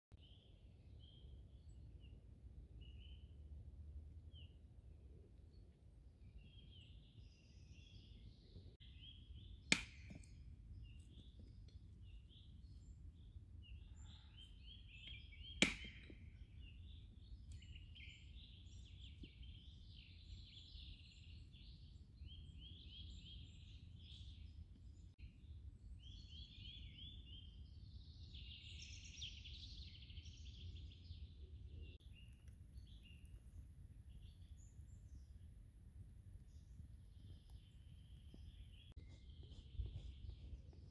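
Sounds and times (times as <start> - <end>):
songbirds singing: 0.1 - 40.9.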